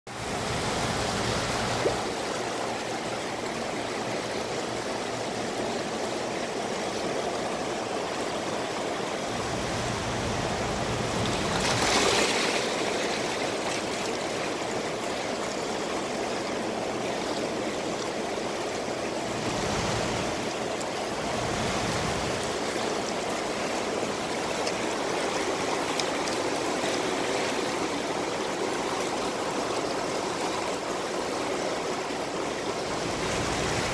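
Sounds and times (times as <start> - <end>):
river water rushing over rocks: 0.1 - 33.9.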